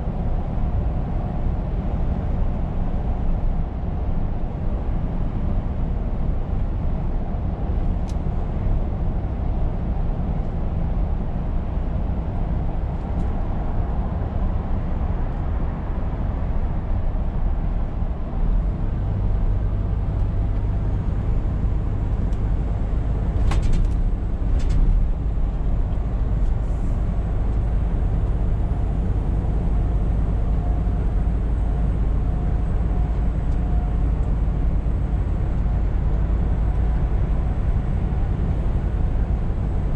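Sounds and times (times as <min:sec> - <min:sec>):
road and tyre noise: 0:00.0 - 0:39.9
truck engine rumble: 0:00.0 - 0:39.9.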